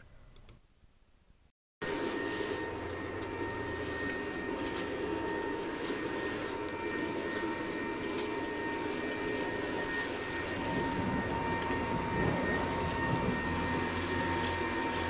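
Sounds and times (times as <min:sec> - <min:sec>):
leaf blower running: 0:01.8 - 0:15.0.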